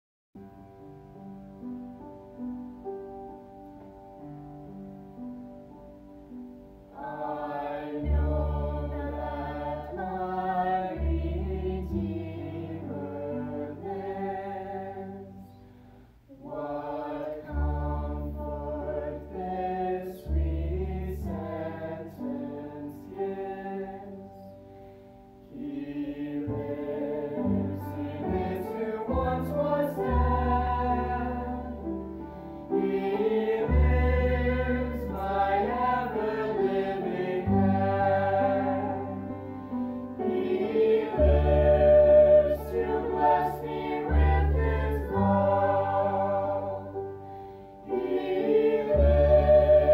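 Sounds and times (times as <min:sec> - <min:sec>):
piano accompaniment: 0:00.4 - 0:49.9
choir singing a hymn: 0:06.9 - 0:49.9.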